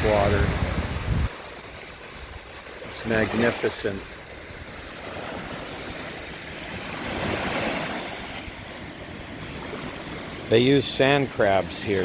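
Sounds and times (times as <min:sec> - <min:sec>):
wind rumbling on microphone: 0:00.0 - 0:10.6
surf washing onto beach: 0:00.0 - 0:12.0.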